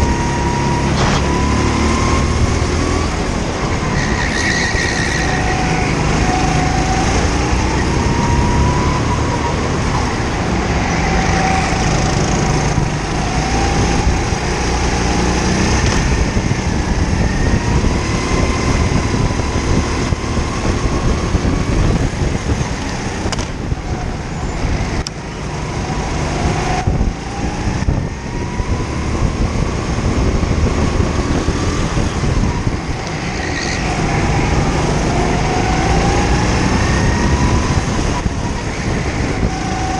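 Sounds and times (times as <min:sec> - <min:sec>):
kart engine racing: 0:00.0 - 0:39.9.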